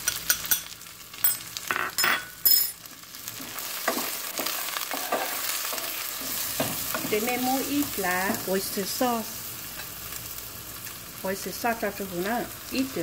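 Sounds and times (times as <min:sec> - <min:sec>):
okra sizzling in oil: 0:00.0 - 0:01.8, 0:02.7 - 0:13.0.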